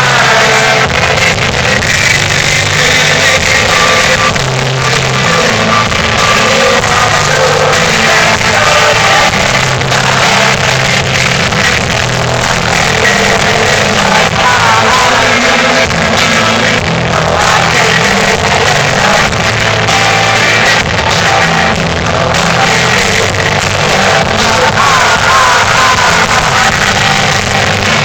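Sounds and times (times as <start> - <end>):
lead singer singing: 0.0 - 28.0
rock band playing live: 0.0 - 28.0.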